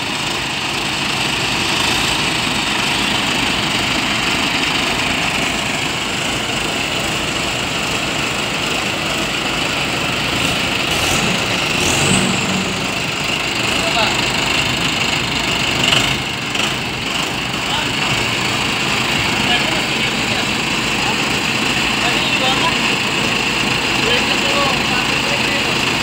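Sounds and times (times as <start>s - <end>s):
tractor diesel engines running: 0.0s - 26.0s.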